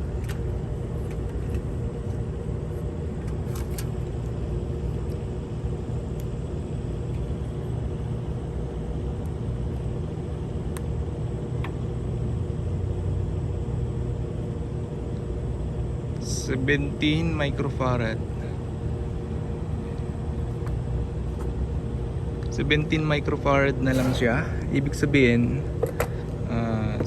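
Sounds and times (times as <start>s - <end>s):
low rumbling hum: 0.0s - 27.0s.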